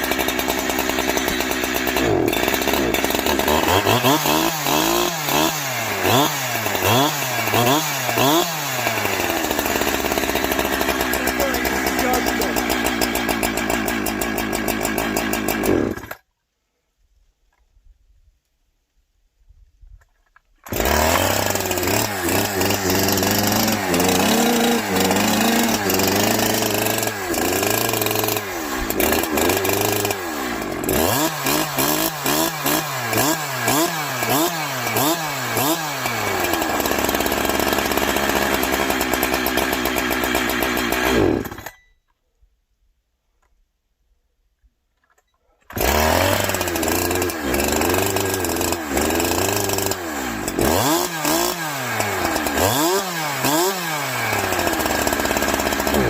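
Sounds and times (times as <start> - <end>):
chainsaw revving: 0.0 - 16.2, 20.7 - 41.8, 45.7 - 56.0.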